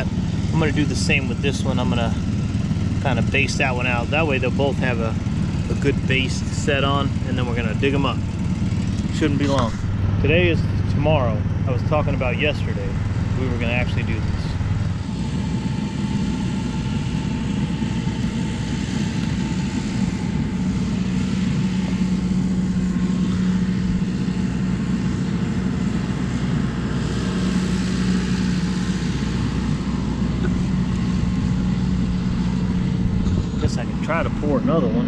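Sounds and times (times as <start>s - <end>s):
furnace burner rushing: 0.0s - 34.8s
low hum: 0.0s - 35.0s.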